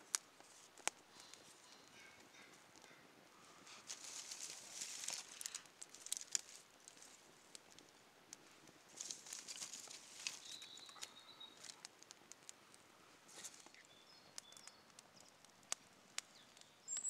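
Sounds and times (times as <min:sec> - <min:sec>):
twigs snapping and rustling: 0:00.0 - 0:03.0, 0:03.7 - 0:17.0
twig fire crackling: 0:00.0 - 0:17.0.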